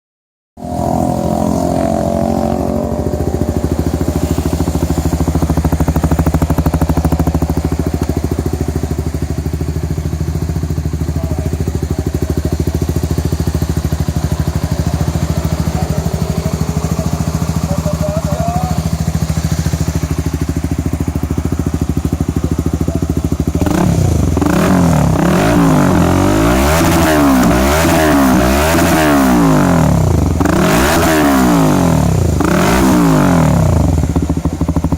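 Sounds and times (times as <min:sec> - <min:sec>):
motorcycle engine idling: 0:00.6 - 0:34.9.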